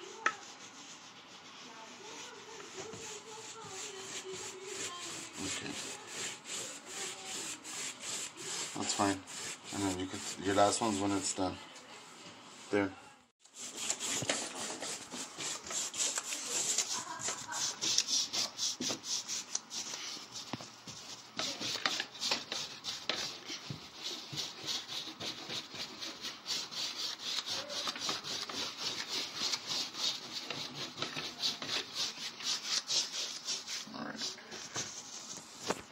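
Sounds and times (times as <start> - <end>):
brush scrubbing drywall: 0.0 - 11.6, 12.4 - 35.9.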